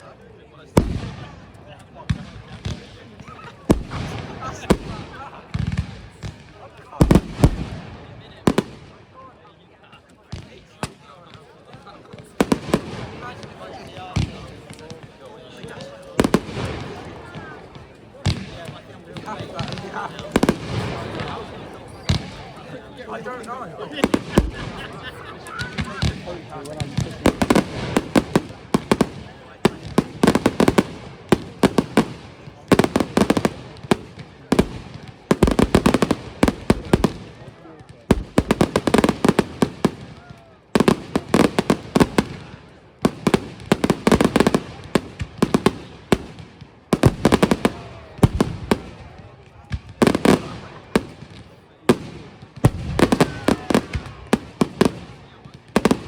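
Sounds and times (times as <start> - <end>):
fireworks banging and crackling: 0.5 - 56.0.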